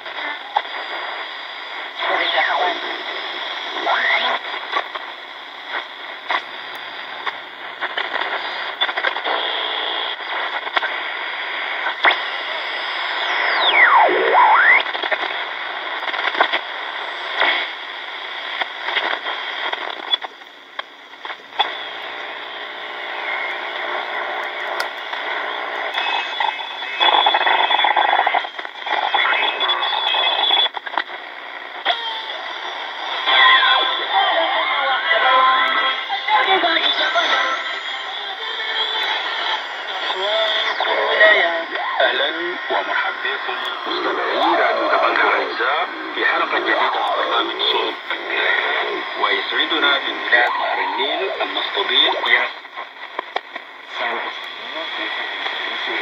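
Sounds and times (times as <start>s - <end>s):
radio signal fragments: 0.0s - 56.0s
radio static hiss with crackles: 0.0s - 56.0s.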